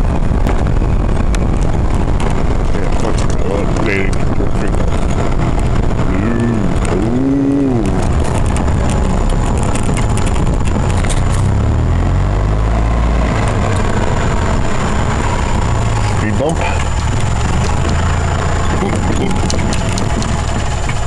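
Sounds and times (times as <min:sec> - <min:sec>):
vehicle engine and road rumble: 0:00.0 - 0:21.0
wind noise on microphone: 0:00.0 - 0:21.0.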